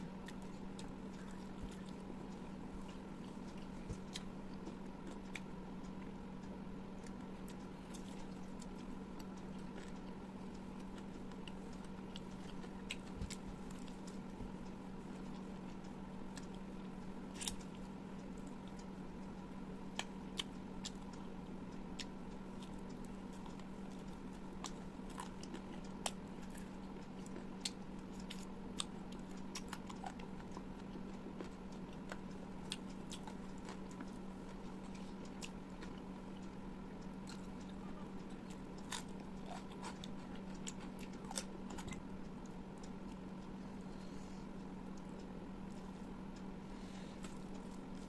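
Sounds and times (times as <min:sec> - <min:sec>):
steady low hum: 0:00.0 - 0:48.0
person chewing food: 0:00.1 - 0:48.0.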